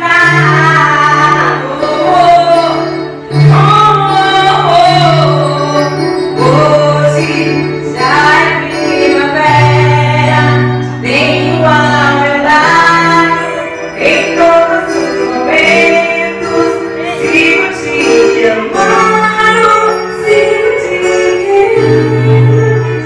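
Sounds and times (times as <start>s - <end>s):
instrumental backing with bass: 0.0s - 23.0s
woman singing slow song: 0.0s - 23.0s.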